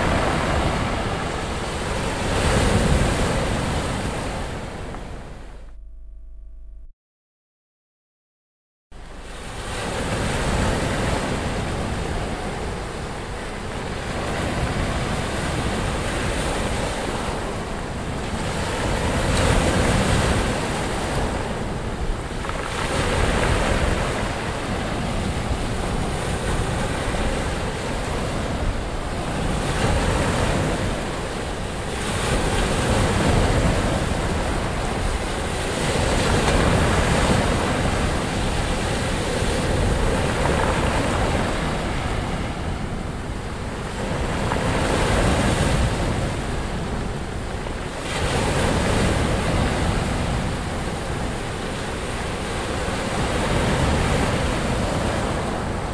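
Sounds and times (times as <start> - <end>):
waves breaking: 0.0 - 5.4, 9.0 - 55.9.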